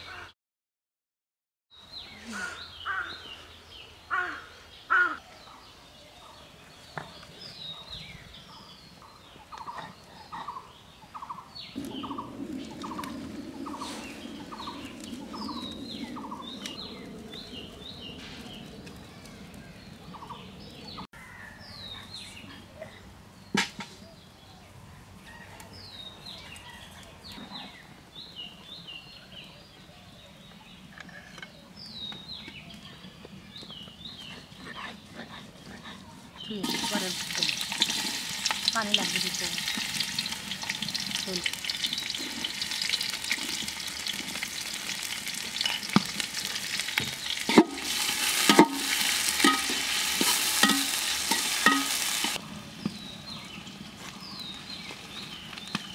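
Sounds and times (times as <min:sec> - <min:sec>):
small birds chirping: 0:01.7 - 0:55.9.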